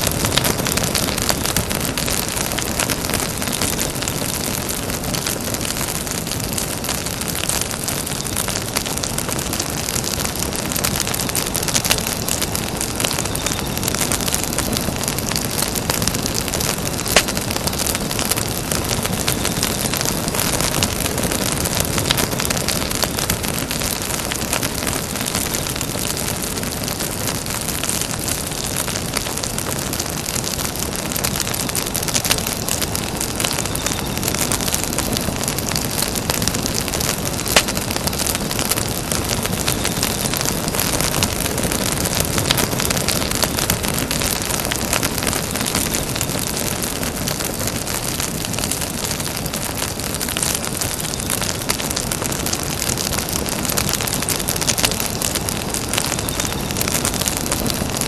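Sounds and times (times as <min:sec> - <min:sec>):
campfire crackling: 0:00.0 - 0:58.0
loud fire pops: 0:00.0 - 0:58.0
rush of flame: 0:00.0 - 0:58.0.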